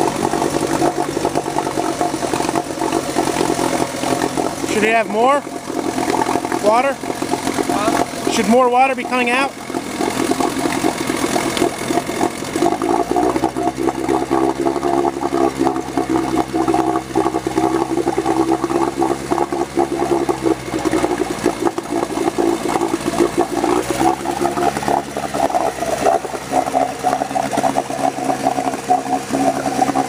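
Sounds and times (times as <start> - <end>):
outboard motor running in water: 0.0 - 30.0.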